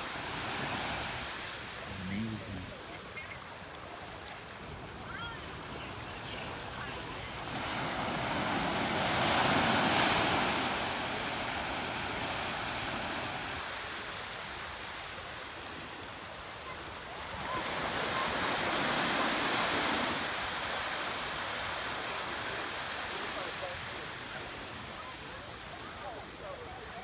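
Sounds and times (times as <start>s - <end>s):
waves breaking on a beach: 0.0s - 27.0s.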